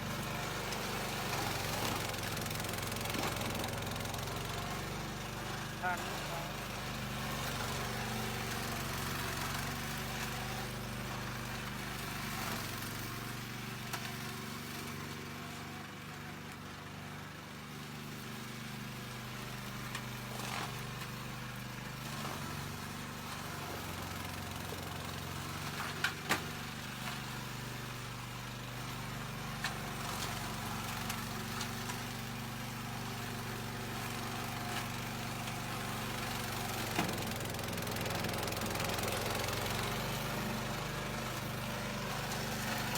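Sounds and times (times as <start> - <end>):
lawn mower engine running: 0.0 - 42.9.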